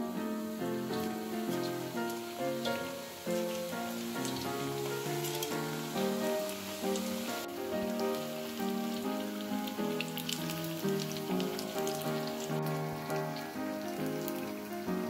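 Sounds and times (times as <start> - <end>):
instrumental background music: 0.0 - 15.0
oil sizzling deep-frying: 0.0 - 15.0.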